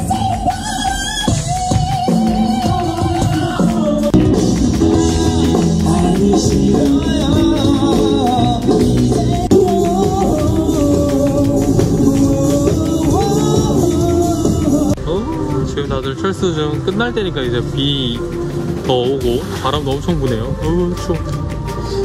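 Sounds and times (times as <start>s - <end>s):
drums: 0.0s - 22.0s
male vocalist singing: 0.0s - 22.0s.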